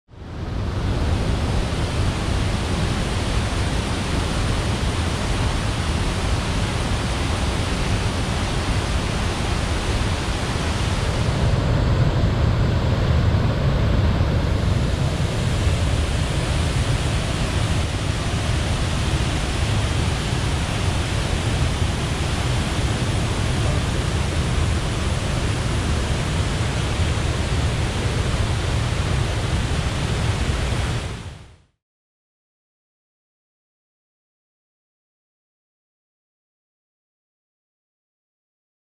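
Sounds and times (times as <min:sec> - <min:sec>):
waterfall and river rushing: 0:00.2 - 0:31.6.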